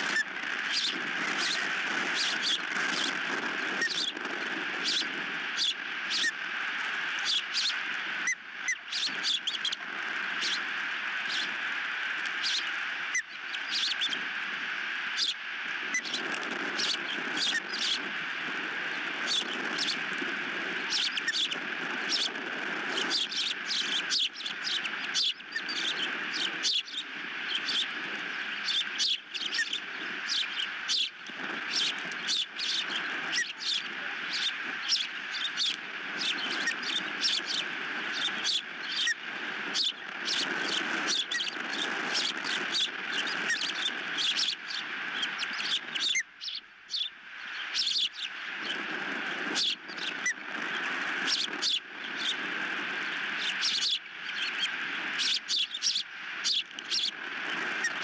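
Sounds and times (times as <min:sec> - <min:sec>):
ospreys chirping: 0:00.0 - 0:58.0.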